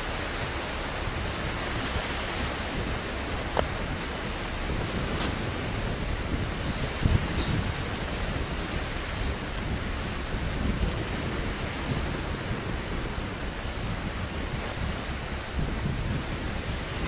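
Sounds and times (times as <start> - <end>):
sea: 0.0 - 17.0
wind: 0.0 - 17.0
wind buffeting microphone: 0.0 - 17.0.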